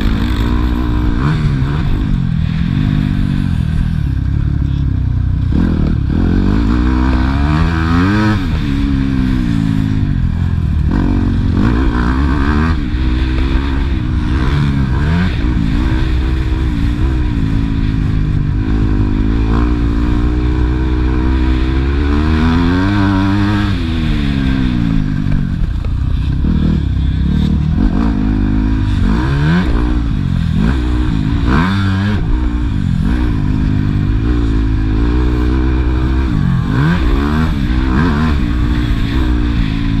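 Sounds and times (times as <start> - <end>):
motocross motorcycle engine: 0.0 - 40.0.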